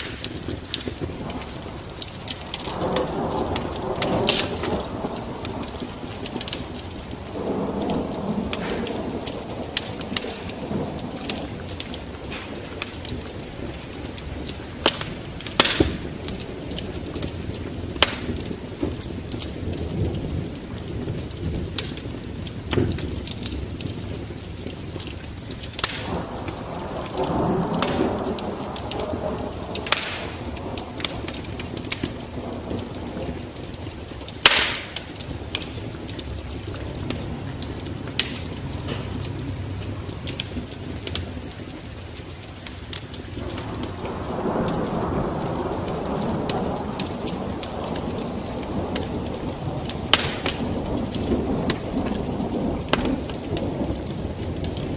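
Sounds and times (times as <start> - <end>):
sharp pops of fire: 0.0 - 20.2, 20.8 - 41.3, 42.6 - 54.9
low rush of fire: 0.0 - 54.9
wood fire crackling: 0.0 - 54.9.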